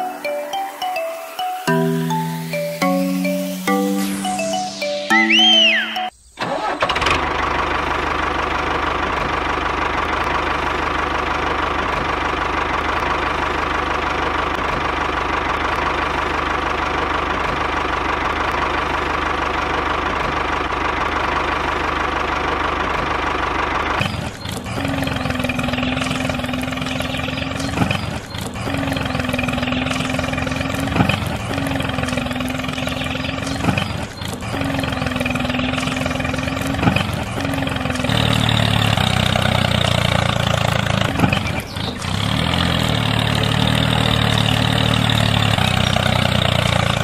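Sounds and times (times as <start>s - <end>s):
model tractor engine running: 6.4s - 47.0s.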